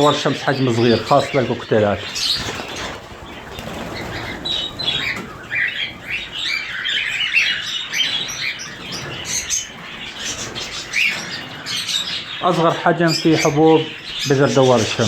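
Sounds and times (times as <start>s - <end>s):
cockatiels chirping: 0.0s - 15.0s.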